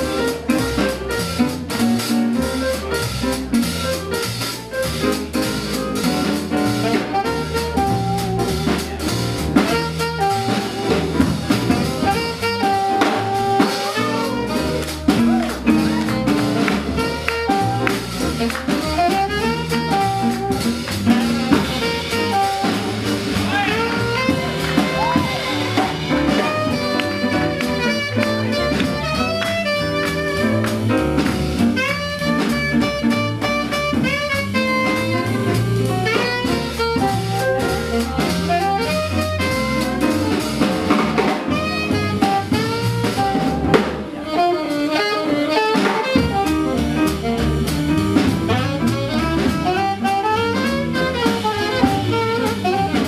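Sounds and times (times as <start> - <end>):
drum kit: 0.0 - 53.0
saxophone lead: 0.0 - 53.0
swing jazz band playing: 0.0 - 53.0
upright bass: 0.0 - 53.0.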